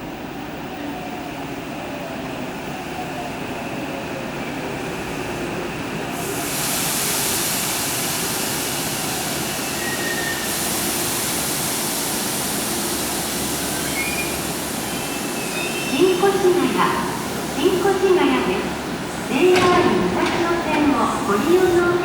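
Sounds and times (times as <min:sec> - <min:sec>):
train wheels rumbling on rail: 0:04.1 - 0:22.0.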